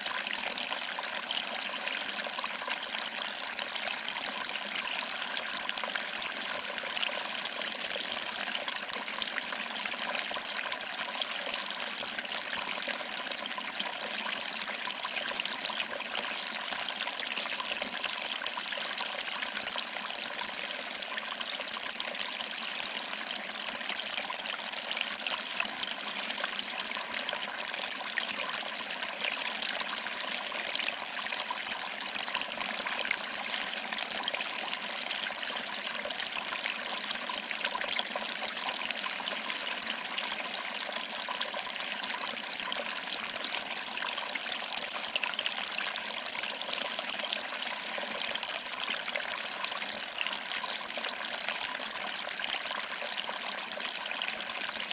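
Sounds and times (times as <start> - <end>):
water trickling over rocks: 0.0 - 54.9.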